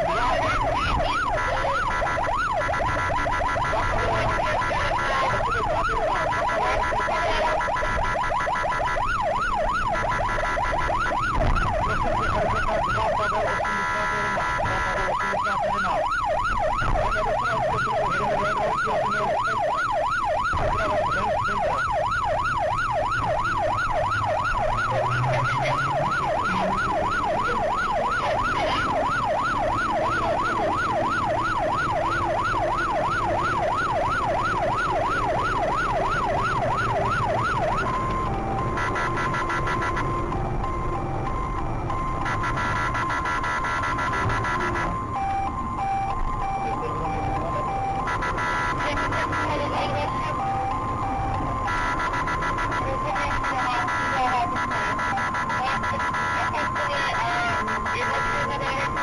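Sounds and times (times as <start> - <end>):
police siren yelping: 0.0 - 59.0
road and engine noise: 0.0 - 59.0.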